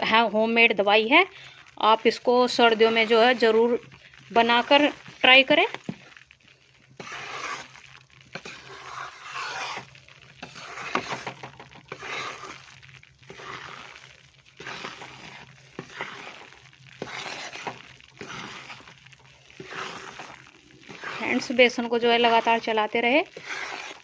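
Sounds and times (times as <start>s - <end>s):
spatula scraping a pan: 1.3s - 24.0s.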